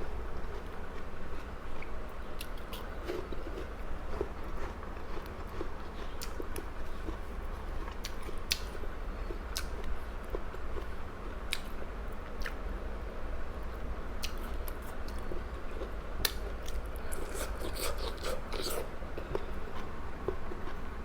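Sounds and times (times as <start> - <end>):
person chewing food: 0.0 - 11.7, 14.2 - 20.9.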